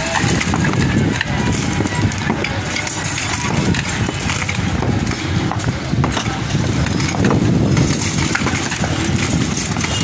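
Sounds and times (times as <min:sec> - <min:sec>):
low rumbling background noise: 0:00.0 - 0:10.0
tools striking masonry: 0:00.0 - 0:10.0.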